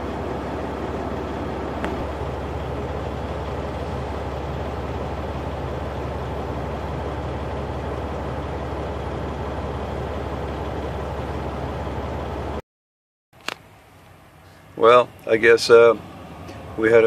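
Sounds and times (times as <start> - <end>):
road and wind noise: 0.0 - 12.6, 13.4 - 17.0
truck diesel engine running: 0.0 - 12.6, 13.6 - 17.0.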